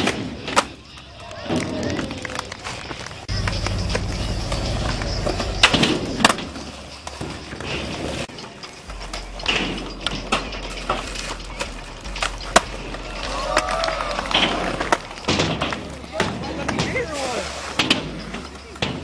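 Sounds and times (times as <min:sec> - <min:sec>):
skateboard clacks popping and landing: 0:00.0 - 0:17.1, 0:17.7 - 0:19.0
skateboards rolling on concrete: 0:00.0 - 0:19.0.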